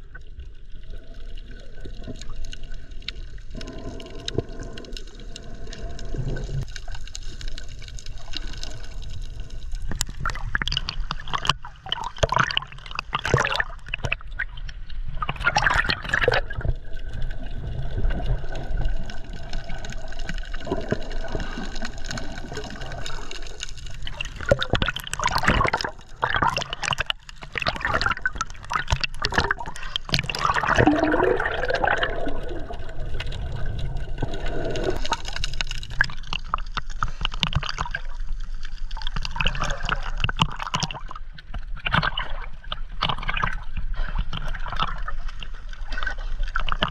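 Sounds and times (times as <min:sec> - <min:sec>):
low underwater rumble: 0:00.0 - 0:46.9
water sloshing and gurgling: 0:00.0 - 0:46.9
bubbling bursts: 0:01.0 - 0:14.6, 0:15.2 - 0:41.2.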